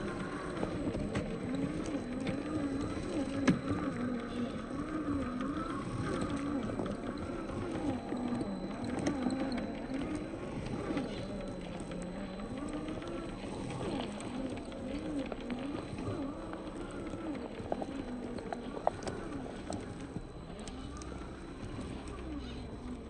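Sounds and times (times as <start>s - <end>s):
electric motor and gear whine: 0.0s - 23.0s.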